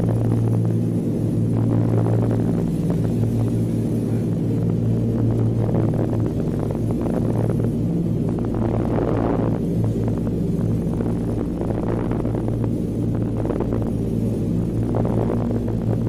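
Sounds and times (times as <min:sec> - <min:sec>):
propeller engines droning: 0:00.0 - 0:16.0.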